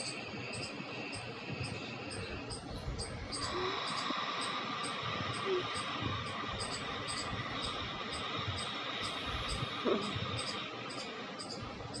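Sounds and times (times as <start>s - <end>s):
soft breathing hiss: 0.0s - 11.9s.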